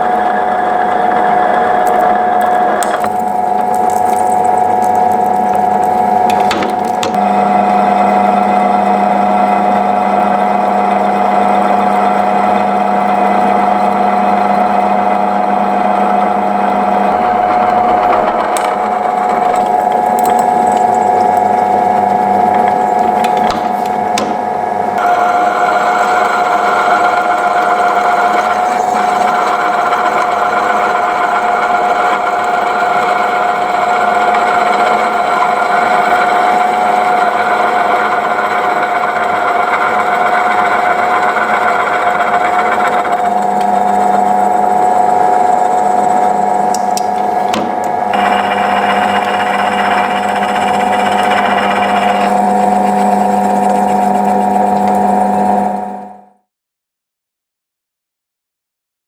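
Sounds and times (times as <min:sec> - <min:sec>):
workshop machine whining: 0:00.0 - 0:56.2.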